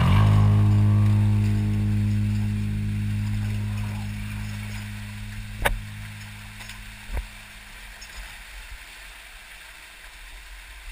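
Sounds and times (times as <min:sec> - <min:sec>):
creek water rushing: 0:00.0 - 0:10.9
low steady hum: 0:00.0 - 0:10.9.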